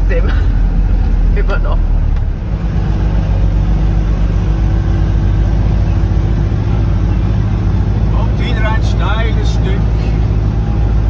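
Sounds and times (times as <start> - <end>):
diesel truck engine under load: 0.0 - 11.0.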